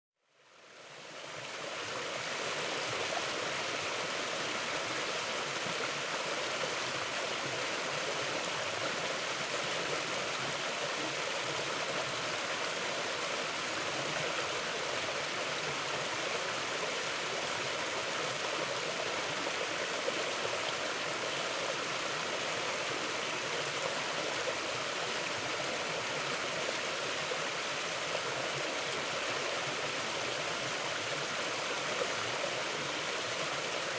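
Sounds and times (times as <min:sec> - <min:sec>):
stream flowing: 0:00.3 - 0:33.9.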